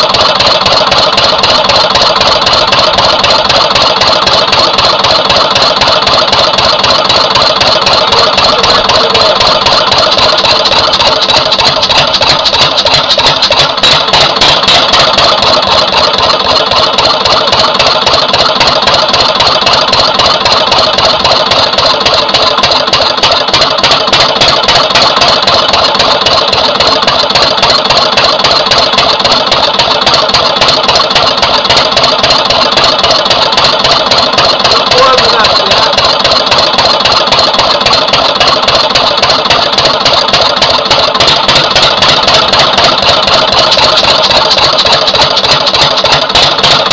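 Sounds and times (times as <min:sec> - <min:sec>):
diesel engine clattering: 0:00.0 - 0:46.9.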